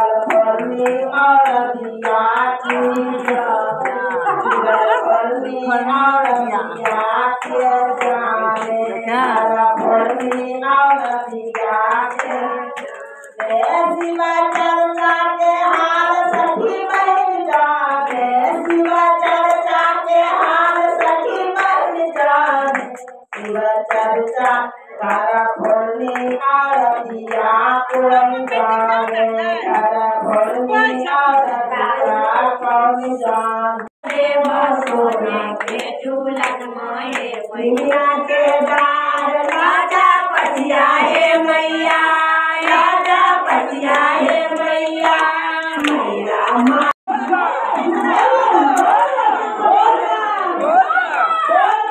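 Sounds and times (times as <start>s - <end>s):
women singing devotional song: 0.0s - 51.9s
hand clapping: 0.2s - 4.7s, 6.2s - 30.9s, 33.8s - 47.4s.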